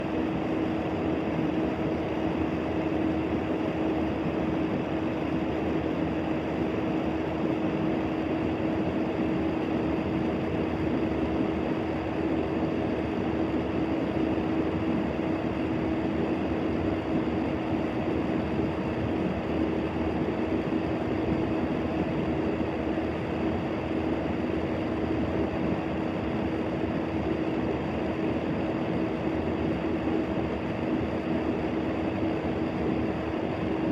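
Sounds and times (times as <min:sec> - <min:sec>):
constant hum: 0:00.0 - 0:33.9.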